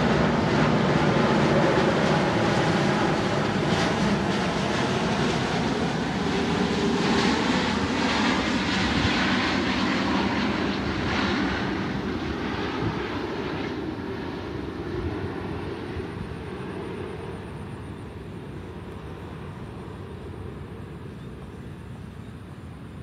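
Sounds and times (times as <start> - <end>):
jet aircraft passing overhead: 0.0 - 23.0.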